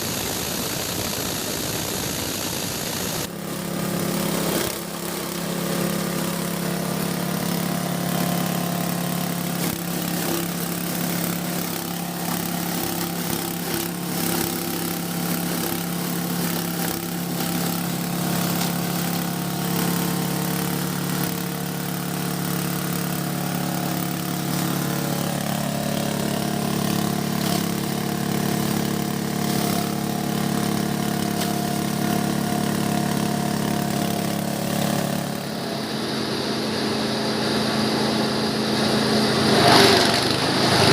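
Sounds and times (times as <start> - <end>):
chopper-grinder droning: 0.2 - 40.9.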